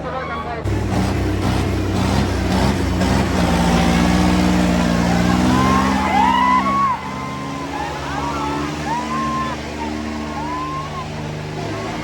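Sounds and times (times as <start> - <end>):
tractor diesel engines droning: 0.0 - 12.0.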